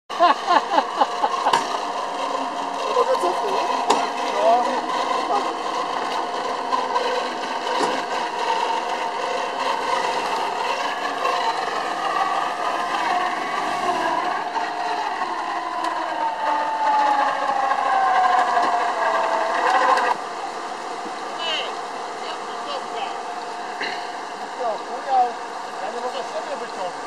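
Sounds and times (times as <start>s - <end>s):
electric winch whirring under load: 0.1s - 27.0s.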